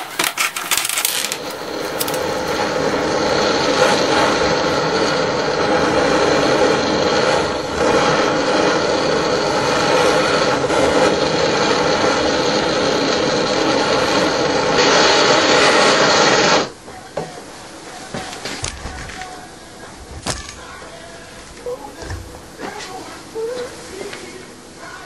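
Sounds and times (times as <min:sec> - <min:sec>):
gas burner hissing: 0:00.0 - 0:25.0.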